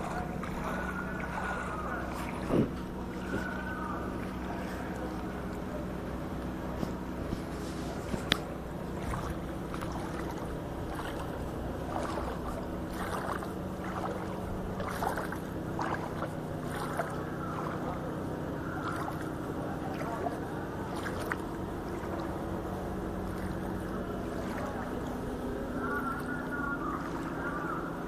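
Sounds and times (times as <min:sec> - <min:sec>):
motor running steadily: 0:00.0 - 0:28.0
noisy wash: 0:00.0 - 0:28.0.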